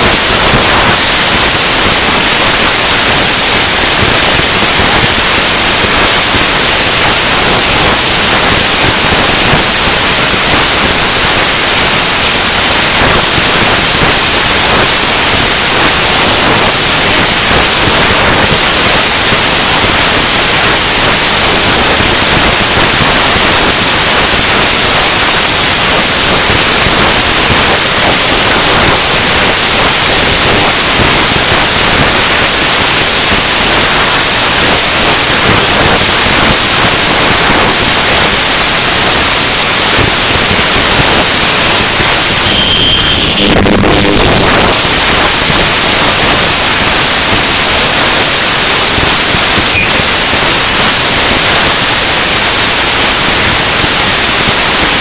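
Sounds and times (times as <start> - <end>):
harsh noise music static: 0.0 - 55.0.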